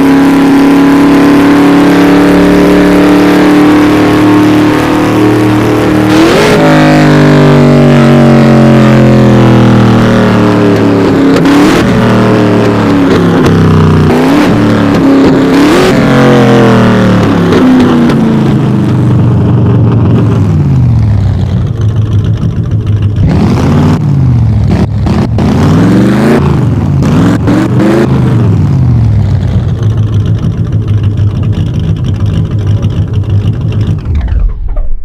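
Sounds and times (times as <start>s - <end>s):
racing car engine revving: 0.0s - 35.0s.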